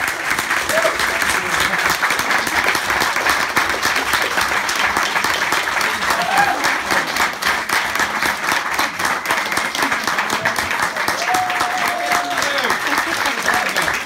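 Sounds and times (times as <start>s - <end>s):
audience clapping: 0.0s - 14.0s.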